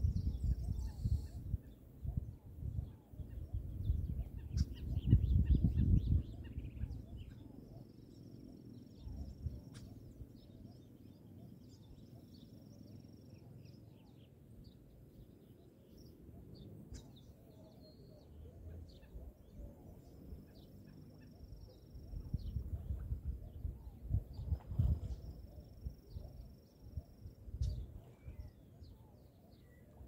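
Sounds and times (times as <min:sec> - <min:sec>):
small bird chirps: 0:00.0 - 0:02.3, 0:02.9 - 0:30.0.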